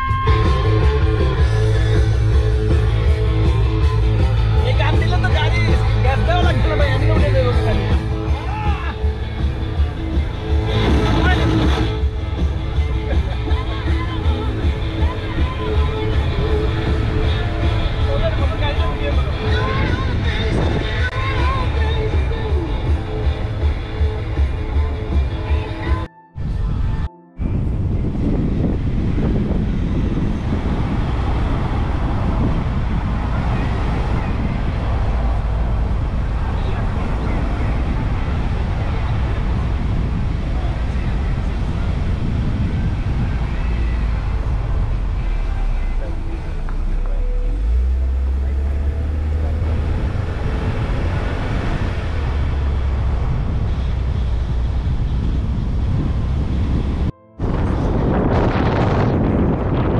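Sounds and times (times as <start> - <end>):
car engine and road rumble: 0.0 - 59.9
wind buffeting microphone: 0.0 - 59.9.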